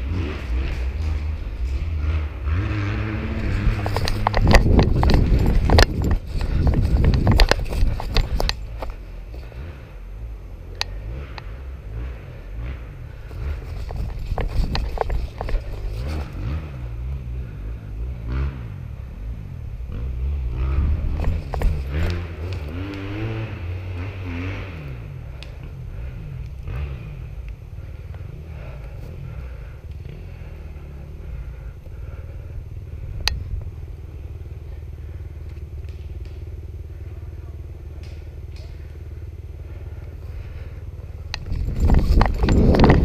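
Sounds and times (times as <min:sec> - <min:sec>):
rumbling wind noise: 0:00.0 - 0:10.2, 0:12.5 - 0:37.0, 0:39.3 - 0:43.0.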